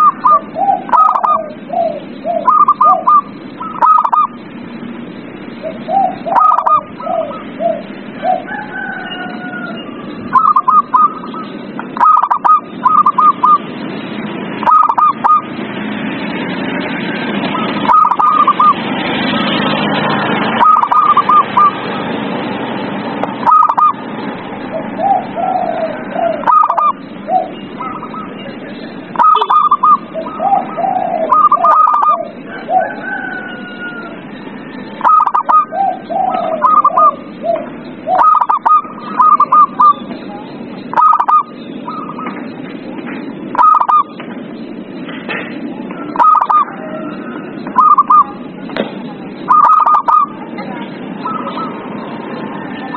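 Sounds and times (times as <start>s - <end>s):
doves cooing: 0.0s - 15.9s, 17.1s - 22.2s, 22.8s - 44.8s, 45.8s - 48.7s, 49.4s - 52.9s.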